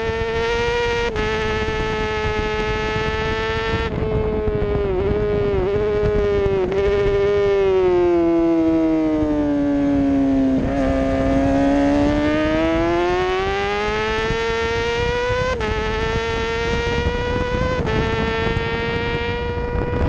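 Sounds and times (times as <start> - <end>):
motorcycle engine at high revs: 0.0 - 20.0
motorcycle upshifts: 0.0 - 20.0.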